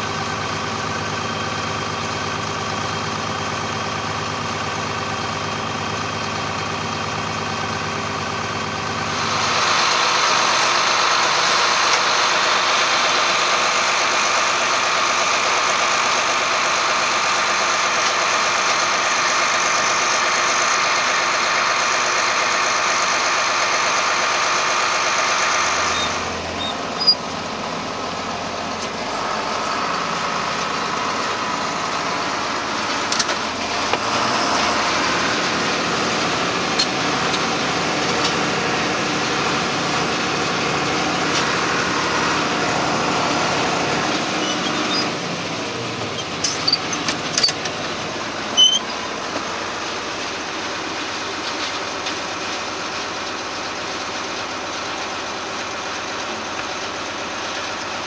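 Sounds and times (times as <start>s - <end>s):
combine harvester running: 0.0s - 58.0s
tractor engine running: 0.0s - 58.0s.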